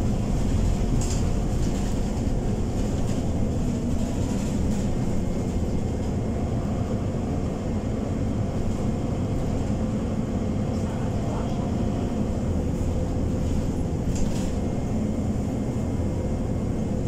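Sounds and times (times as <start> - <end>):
bus engine drone: 0.0 - 17.0
engine cooling fan: 0.0 - 17.0
road rumble: 0.0 - 17.0.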